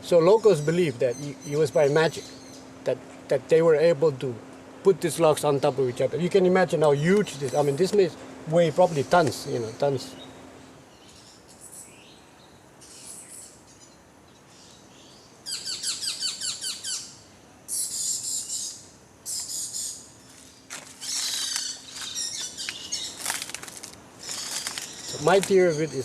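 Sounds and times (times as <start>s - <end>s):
birds chirping and trilling: 0.0s - 2.9s, 4.6s - 26.0s.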